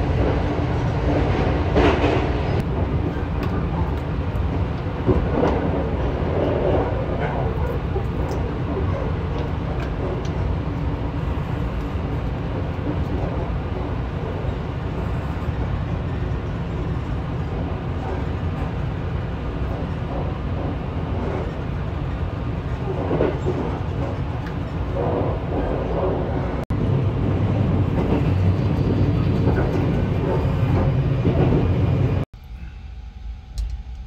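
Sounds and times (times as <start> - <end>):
train rumbling inside carriage: 0.0 - 34.0.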